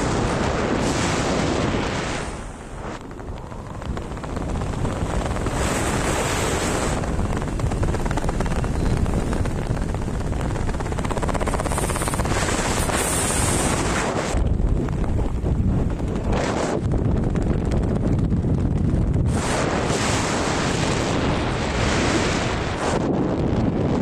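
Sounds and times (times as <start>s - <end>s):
rushing wind on microphone: 0.0s - 24.0s.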